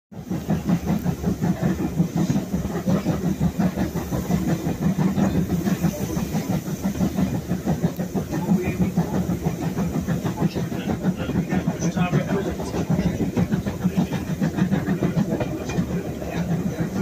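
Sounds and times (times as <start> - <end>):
train low rumble: 0.1 - 17.0
rattle of wheels and coach: 0.2 - 17.0.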